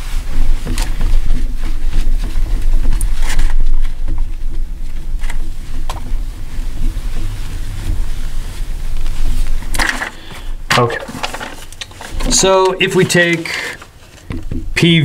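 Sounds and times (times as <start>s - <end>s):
loud steady low rumble: 0.0s - 12.9s
cloth rubbing on glass: 0.0s - 15.0s.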